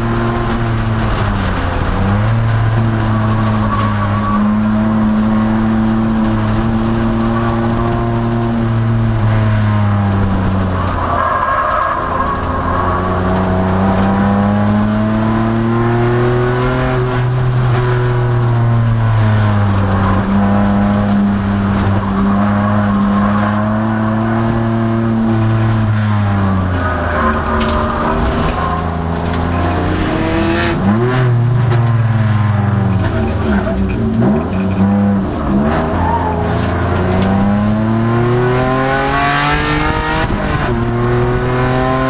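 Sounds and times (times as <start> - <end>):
car engine under racing load: 0.0 - 42.0
road and tyre noise: 0.0 - 42.0.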